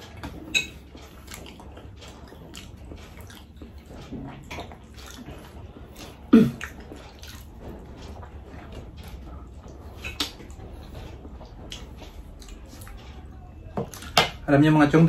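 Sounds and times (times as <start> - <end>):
wet chewing and lip-smacking: 0.0 - 14.4.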